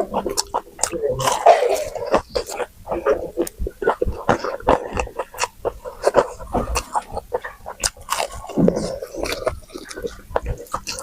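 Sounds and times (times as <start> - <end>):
chewing and mouth smacking: 0.0 - 11.0.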